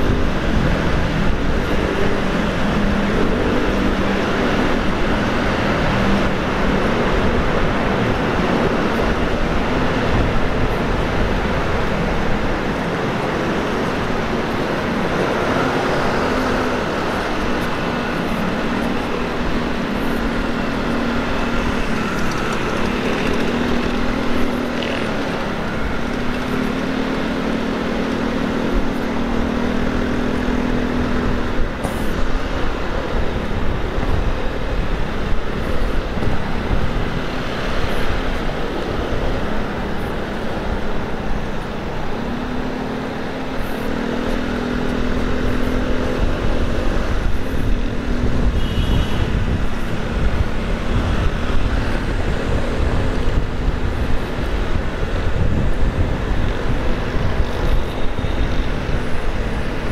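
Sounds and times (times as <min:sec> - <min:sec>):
road traffic noise: 0:00.0 - 0:59.9
vehicle engine droning: 0:00.0 - 0:59.9
wind rumbling on microphone: 0:00.0 - 0:59.9.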